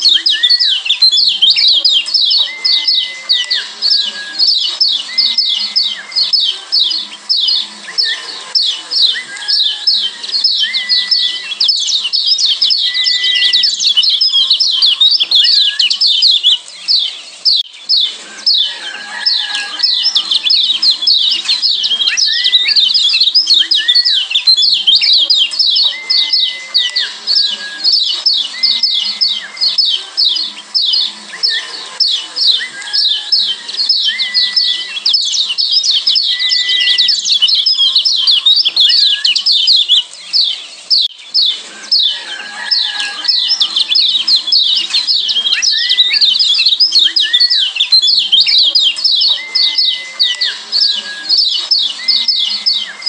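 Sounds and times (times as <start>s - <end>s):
bird chirping rapidly: 0.0s - 53.0s.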